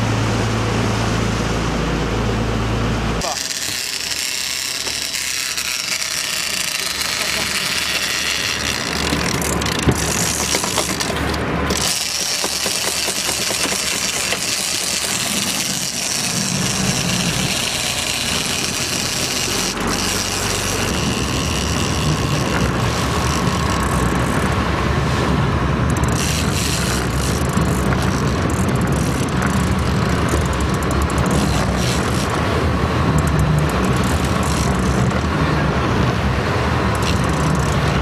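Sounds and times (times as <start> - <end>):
boat engine running: 0.0 - 38.0
wind and water hiss: 0.0 - 38.0.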